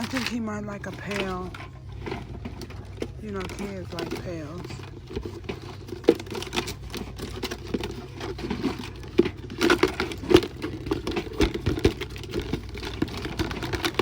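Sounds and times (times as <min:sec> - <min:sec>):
clicks and knocks of handled items: 0:00.0 - 0:14.0
crinkling rustles: 0:00.0 - 0:14.0.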